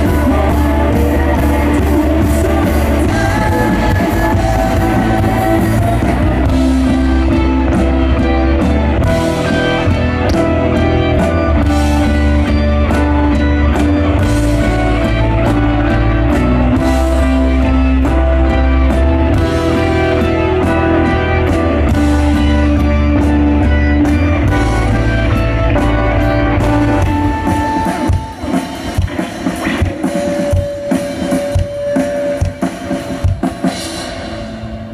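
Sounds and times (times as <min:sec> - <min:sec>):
rock band playing instrumental: 0:00.0 - 0:34.9.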